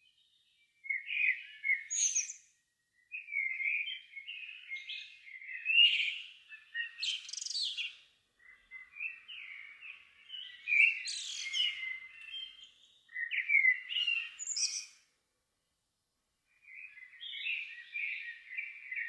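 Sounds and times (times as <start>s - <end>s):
songbird whistled song: 0.0s - 15.1s, 16.5s - 19.0s.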